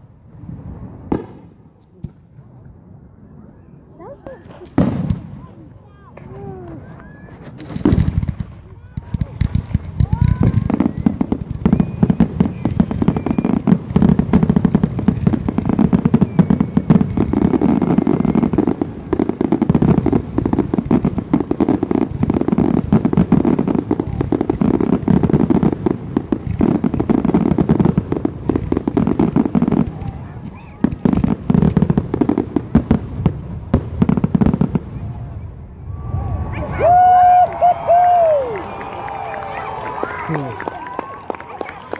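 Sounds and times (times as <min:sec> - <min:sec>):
fireworks exploding: 0:00.0 - 0:41.9.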